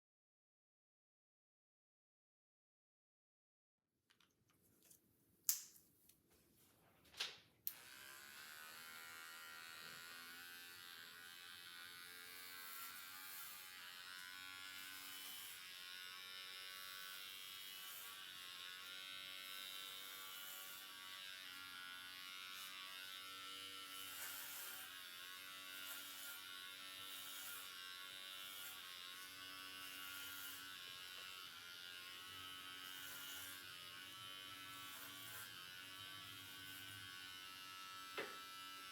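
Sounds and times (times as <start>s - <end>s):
electric hair clippers buzzing: 7.7s - 38.9s.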